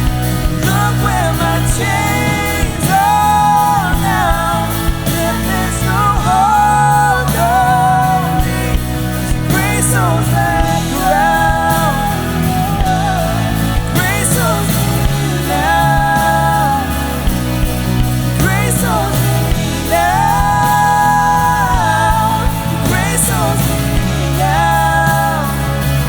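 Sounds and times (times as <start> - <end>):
drums: 0.0 - 26.0
steady bass: 0.0 - 26.0
worship song singing: 0.0 - 26.0.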